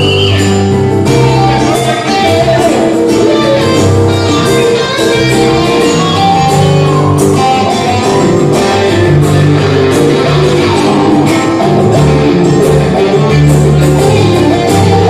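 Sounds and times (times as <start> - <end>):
guitar strummed and picked: 0.0 - 15.0.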